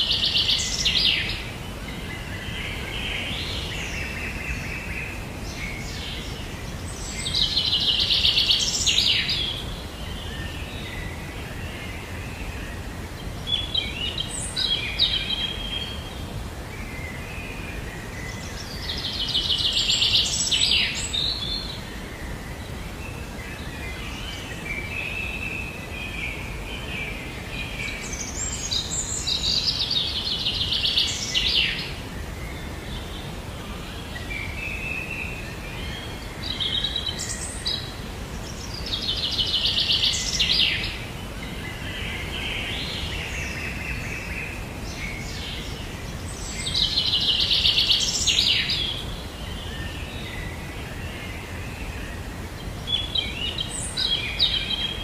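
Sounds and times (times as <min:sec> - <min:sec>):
low background noise: 0:00.0 - 0:55.0
songbird singing: 0:00.0 - 0:55.0.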